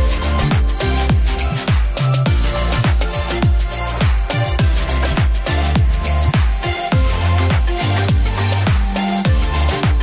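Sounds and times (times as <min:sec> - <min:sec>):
deep kick drum: 0:00.0 - 0:10.0
electronic dance music: 0:00.0 - 0:10.0.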